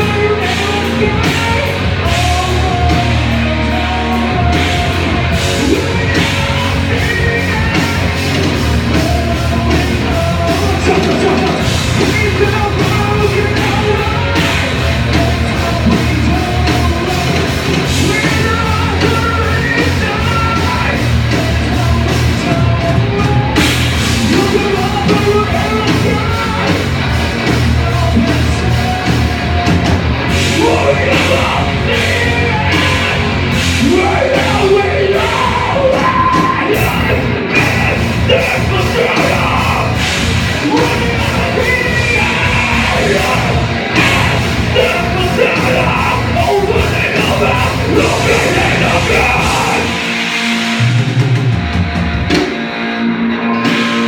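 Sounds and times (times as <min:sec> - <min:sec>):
shouted vocals: 0:00.0 - 0:50.2
live rock band playing: 0:00.0 - 0:54.0.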